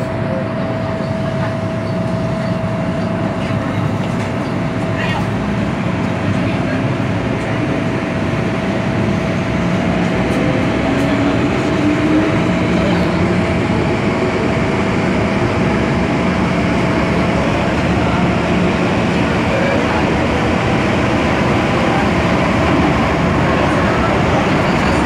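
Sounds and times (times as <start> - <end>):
train rumble and wheel noise: 0.0 - 25.0.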